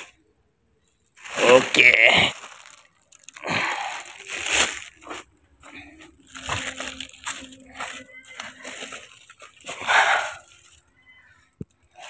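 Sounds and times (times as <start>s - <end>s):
footsteps crunching on debris: 1.2s - 10.9s.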